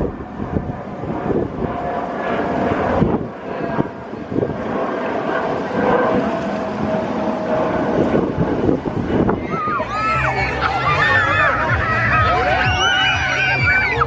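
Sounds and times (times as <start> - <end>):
aircraft engines droning: 0.0 - 14.0
steady whine of held tones: 0.0 - 14.0.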